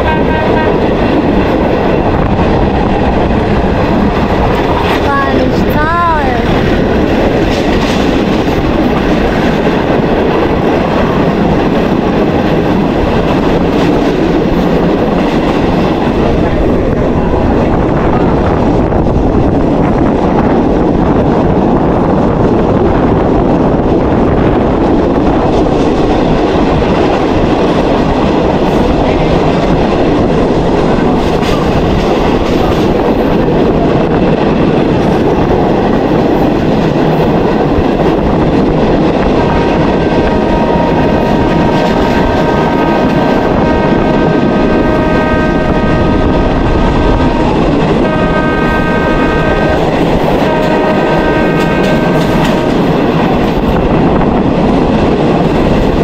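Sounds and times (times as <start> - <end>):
train rumbling and rattling: 0.0 - 56.0.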